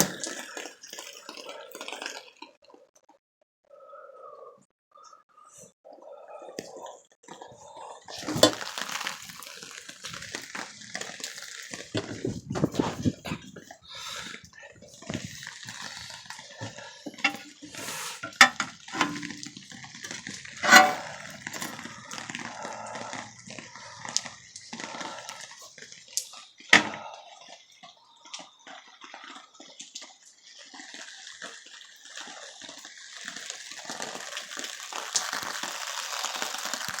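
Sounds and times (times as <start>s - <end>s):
water dripping and splashing: 0.0s - 2.6s, 8.1s - 37.0s.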